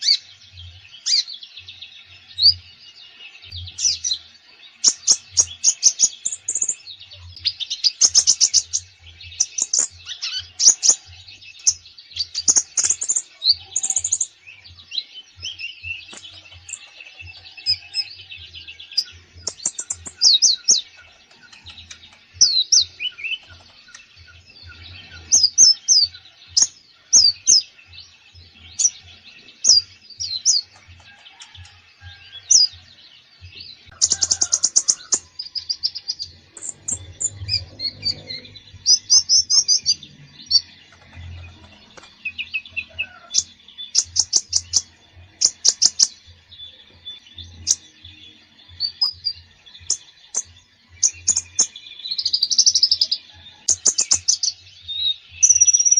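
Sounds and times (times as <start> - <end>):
bird singing with chirps and trills: 0.0 - 55.9.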